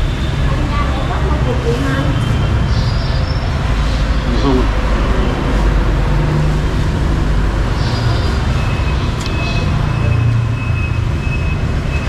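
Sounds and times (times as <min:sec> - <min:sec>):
road traffic: 0:00.0 - 0:12.0
vehicle engines droning: 0:00.0 - 0:12.0.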